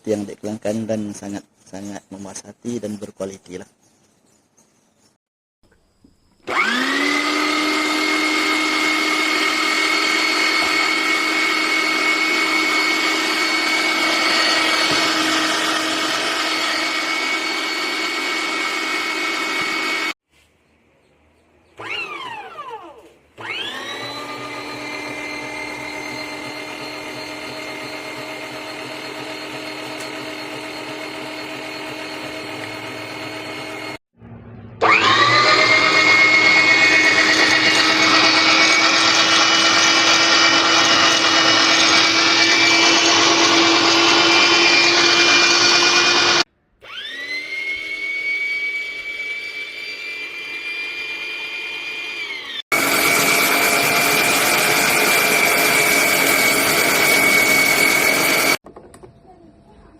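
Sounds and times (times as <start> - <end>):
electric motor whining: 6.4 - 20.2, 21.8 - 34.0, 34.8 - 58.6.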